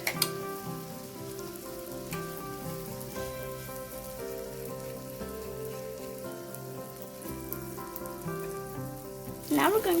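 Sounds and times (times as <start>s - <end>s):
bread sizzling in a frying pan: 0.0s - 10.0s.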